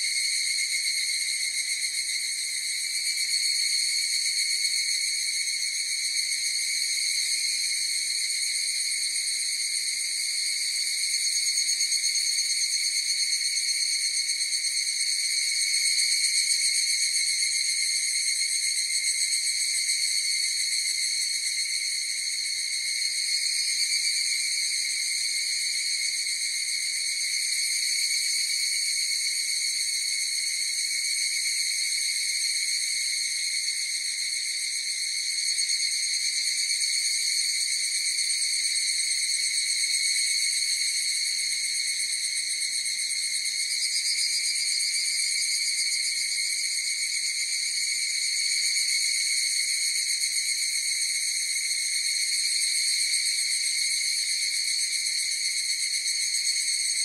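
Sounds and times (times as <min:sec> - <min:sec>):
chorus of cicadas calling: 0:00.0 - 0:57.0.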